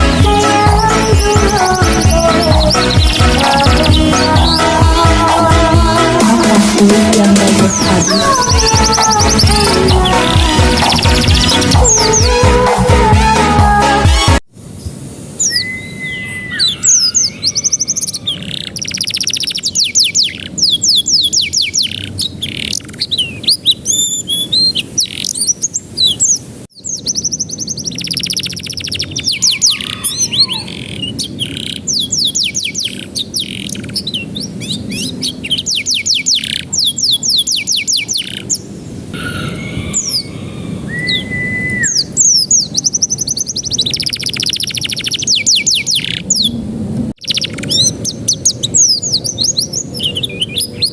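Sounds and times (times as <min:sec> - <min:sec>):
canary singing: 0:00.0 - 0:13.9, 0:15.4 - 0:46.6, 0:47.2 - 0:50.9.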